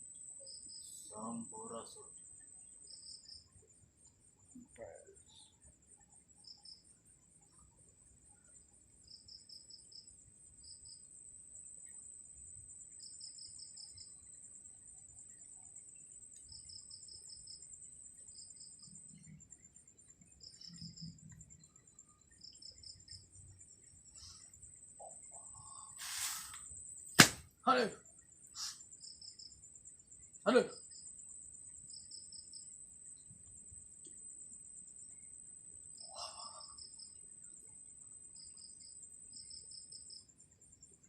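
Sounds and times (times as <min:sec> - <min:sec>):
insect pulsing trill: 0:00.0 - 0:41.0.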